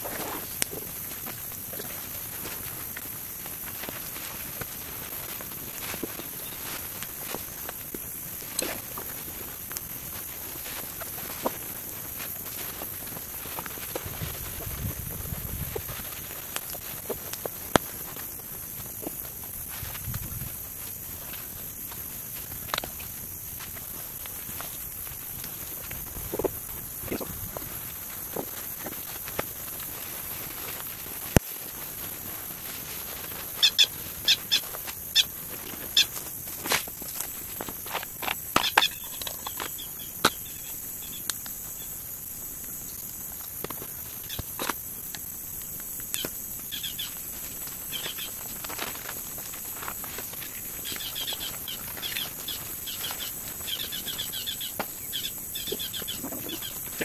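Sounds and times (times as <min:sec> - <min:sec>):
high insect hum: 0:00.0 - 0:57.0.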